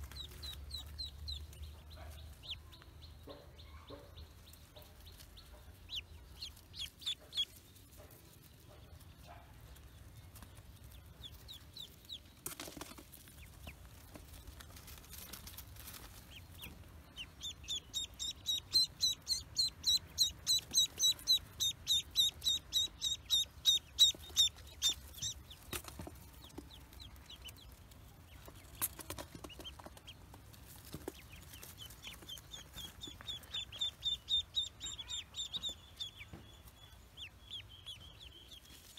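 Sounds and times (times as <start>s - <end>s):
duckling peeping: 0.0s - 12.4s, 13.3s - 38.9s.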